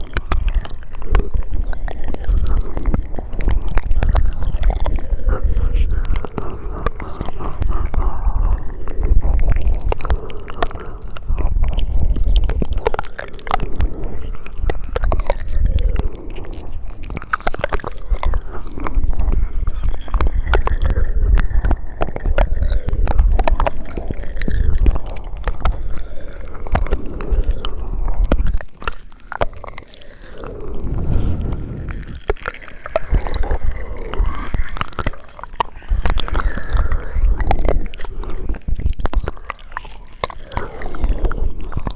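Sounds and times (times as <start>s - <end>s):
wet mouth clicks and smacks: 0.0s - 41.9s.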